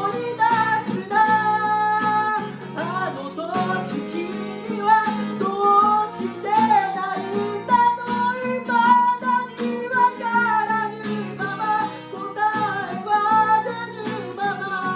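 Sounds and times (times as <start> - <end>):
acoustic guitar strumming: 0.0 - 14.9
person singing: 0.0 - 14.9.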